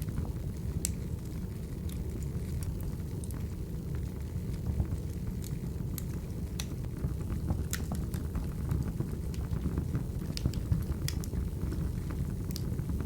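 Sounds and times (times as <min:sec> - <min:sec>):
fire low rumble: 0:00.0 - 0:13.0
fire popping and crackling: 0:00.0 - 0:13.0.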